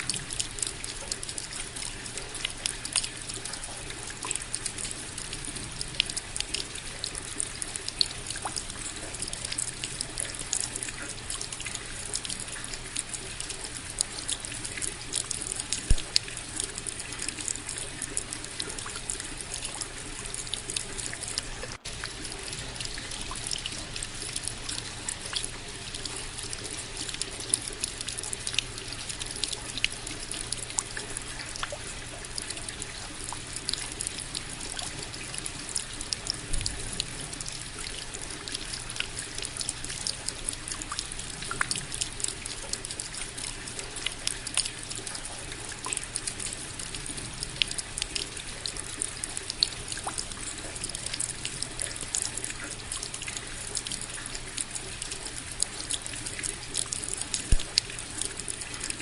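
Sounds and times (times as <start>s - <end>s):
raindrops ticking close by: 0.0s - 59.0s
running water trickling: 0.0s - 59.0s.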